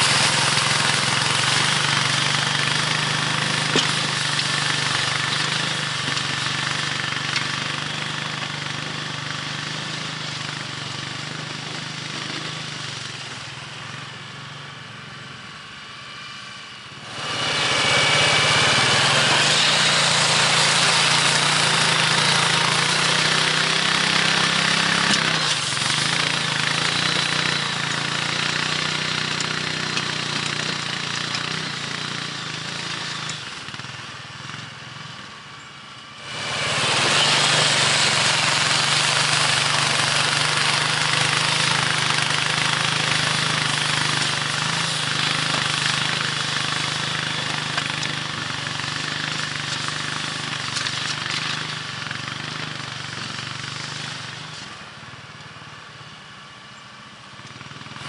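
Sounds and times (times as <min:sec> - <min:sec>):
atv engine running under load: 0:00.0 - 0:58.0.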